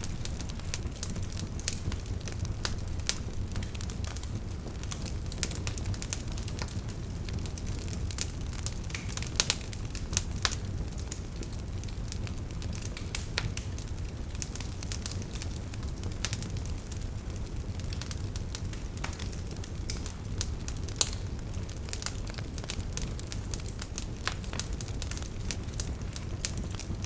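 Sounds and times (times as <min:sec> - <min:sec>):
firewood crackling and popping: 0:00.0 - 0:27.0
low rumble of flames: 0:00.0 - 0:27.0.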